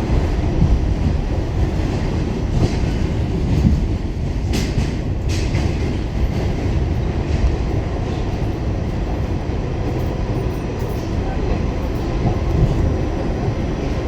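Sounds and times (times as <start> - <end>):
subway car rumbling on rails: 0.0 - 14.0.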